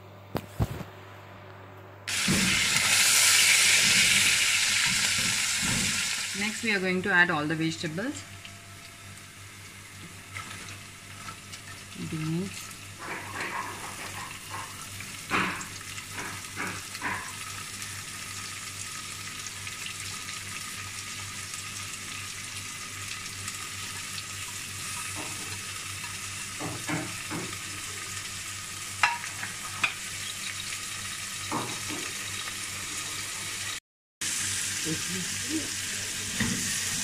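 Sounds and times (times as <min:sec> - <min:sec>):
vegetables sizzling in hot oil: 0:02.1 - 0:37.0.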